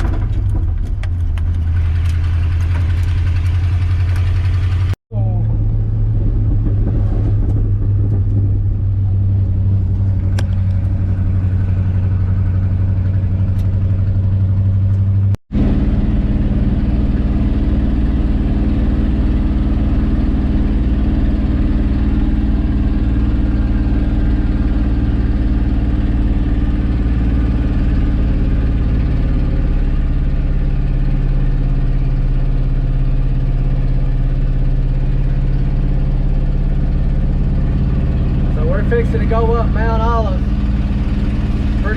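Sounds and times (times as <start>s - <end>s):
pickup truck engine under load: 0.0s - 5.0s, 5.6s - 41.9s.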